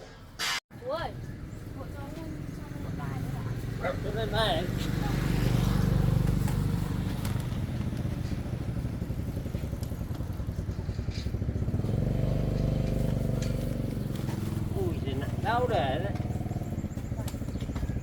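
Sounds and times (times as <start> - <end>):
small motorcycle engine running: 1.7 - 18.0.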